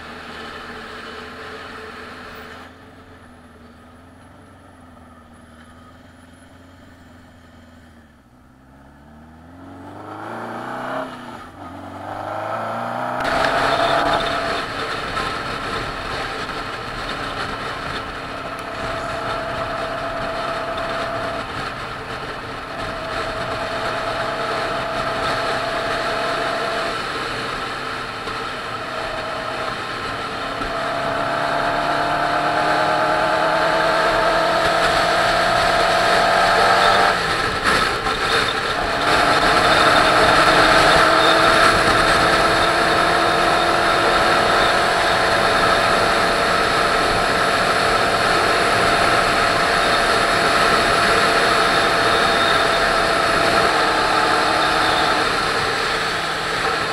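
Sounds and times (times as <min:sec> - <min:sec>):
motorcycle engine at speed: 0:00.0 - 0:56.9.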